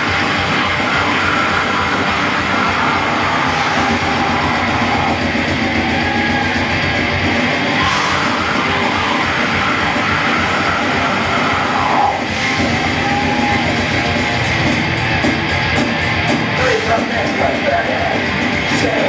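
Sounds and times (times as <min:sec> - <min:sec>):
bass guitar: 0:00.0 - 0:19.0
distorted electric guitars: 0:00.0 - 0:19.0
drum kit: 0:00.0 - 0:19.0.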